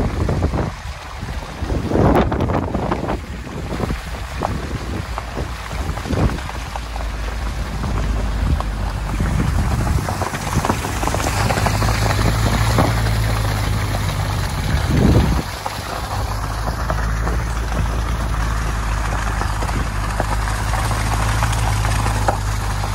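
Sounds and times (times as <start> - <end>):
low engine hum: 0.0 - 22.9
low rumble: 0.0 - 22.9
tyres splashing through slush: 0.0 - 22.9.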